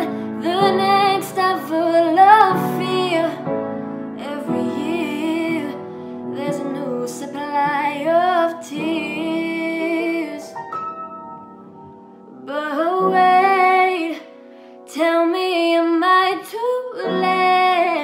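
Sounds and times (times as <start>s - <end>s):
upright piano: 0.0s - 16.0s.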